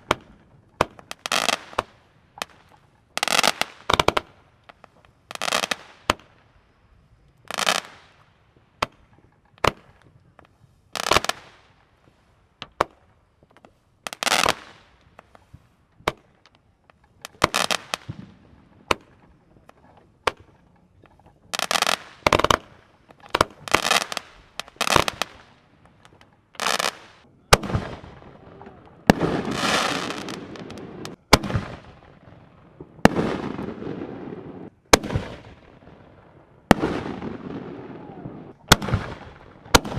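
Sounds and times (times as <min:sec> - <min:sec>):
fireworks bangs: 0:00.0 - 0:06.5, 0:07.4 - 0:39.9
hissing crackle of fireworks: 0:00.0 - 0:39.9.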